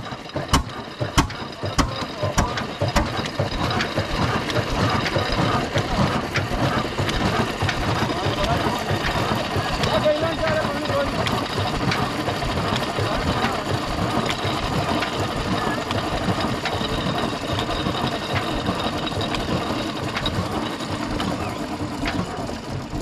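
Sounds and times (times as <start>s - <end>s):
diesel engine clattering: 0.0s - 23.0s.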